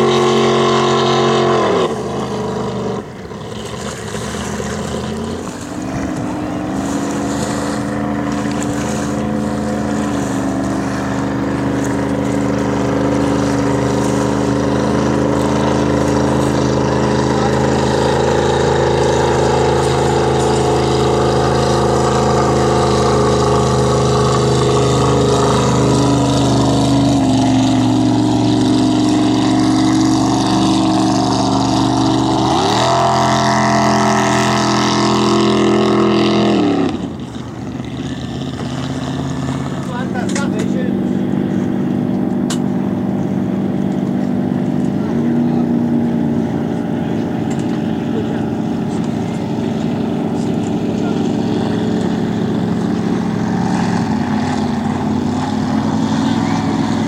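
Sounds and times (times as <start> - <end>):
boat engine running hard: 0.0 - 57.0.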